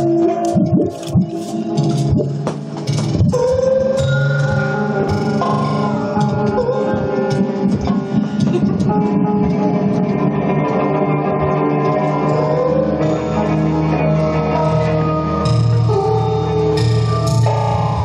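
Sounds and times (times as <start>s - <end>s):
electric guitar: 0.0s - 18.0s
low bass line: 0.0s - 18.0s.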